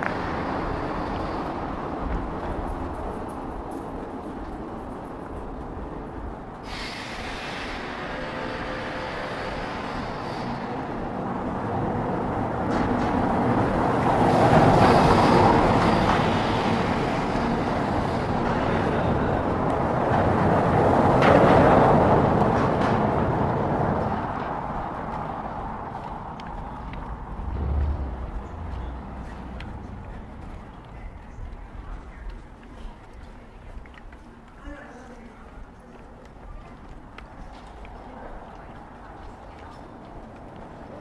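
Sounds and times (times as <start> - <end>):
vehicles passing close by: 0.0 - 41.0.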